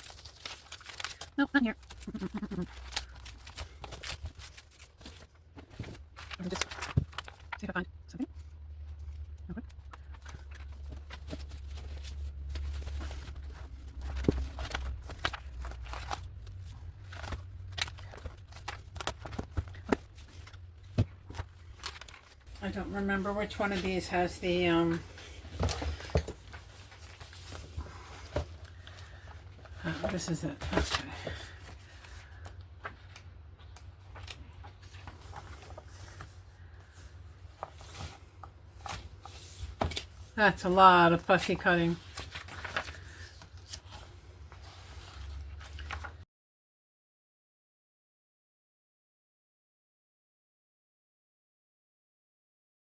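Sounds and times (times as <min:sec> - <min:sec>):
paper rustling: 0:00.0 - 0:07.7, 0:08.4 - 0:46.2.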